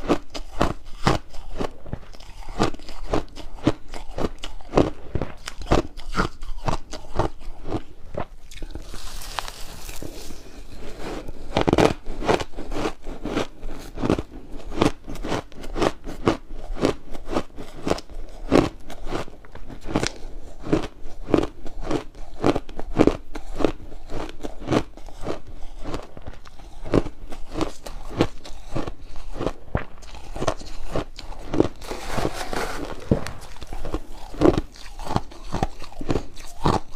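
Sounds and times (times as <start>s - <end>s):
ice crunching being chewed: 0.0s - 36.9s.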